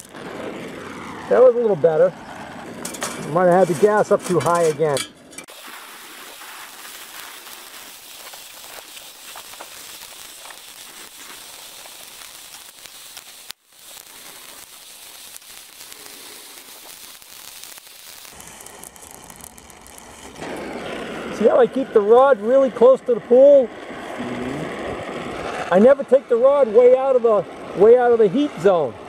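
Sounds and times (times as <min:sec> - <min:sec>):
torch flame hissing: 0:00.0 - 0:04.8, 0:05.4 - 0:29.0
molten steel crackling: 0:00.0 - 0:29.0.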